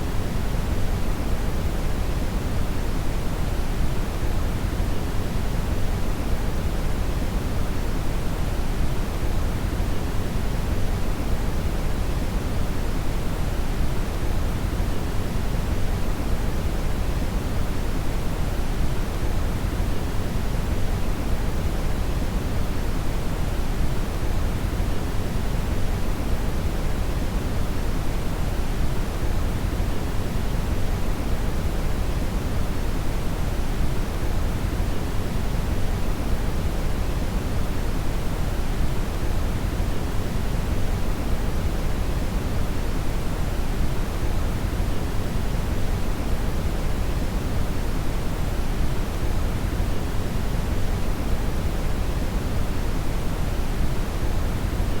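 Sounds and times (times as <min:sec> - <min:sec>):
brown noise hiss: 0:00.0 - 0:55.0.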